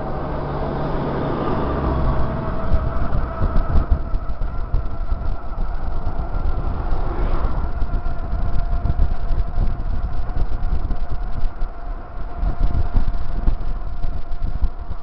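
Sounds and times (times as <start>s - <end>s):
steady hum: 0.0s - 15.0s
wind buffeting microphone: 0.0s - 15.0s.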